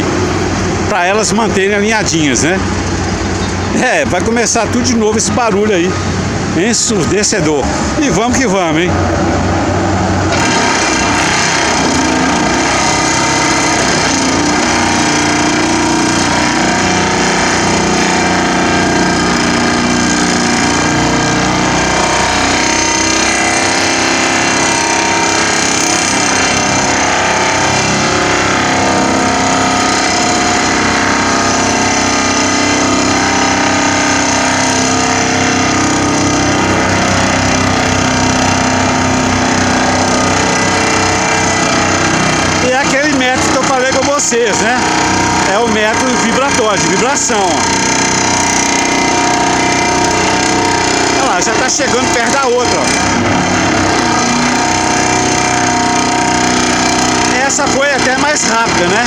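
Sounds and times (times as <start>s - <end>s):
vibratory pile driver droning: 0.0s - 59.0s.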